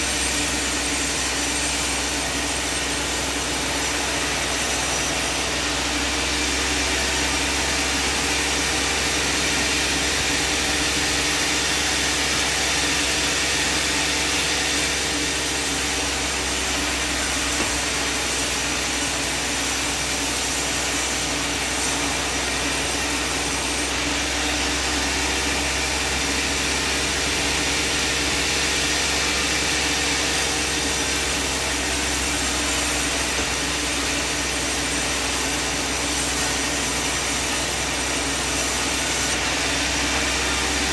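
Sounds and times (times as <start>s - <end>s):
sawmill blade sawing timber: 0.0s - 40.9s.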